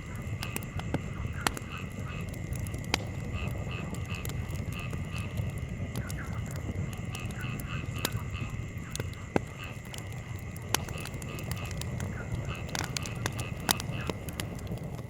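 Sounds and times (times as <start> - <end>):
campfire crackling and popping: 0.0 - 15.0
low rumble of fire and breeze: 0.0 - 15.0.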